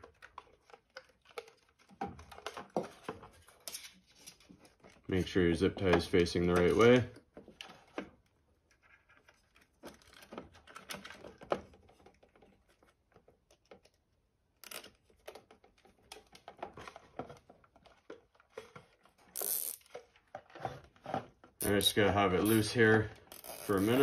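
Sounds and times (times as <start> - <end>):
small plastic clicks and rustles: 0.0 - 24.0.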